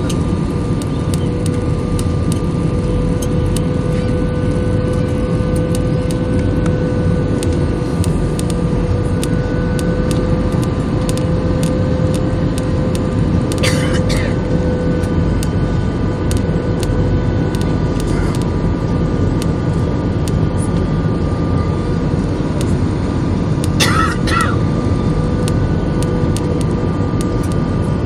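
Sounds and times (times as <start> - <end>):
jet engines and rushing air: 0.0 - 28.0
steady whine: 0.0 - 28.0.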